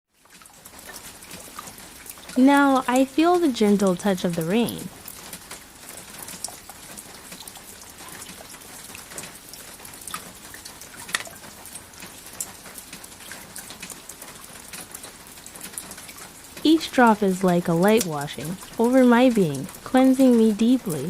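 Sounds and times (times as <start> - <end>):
raindrops pattering on a surface: 0.1 - 21.0
steady rainfall: 0.1 - 21.0.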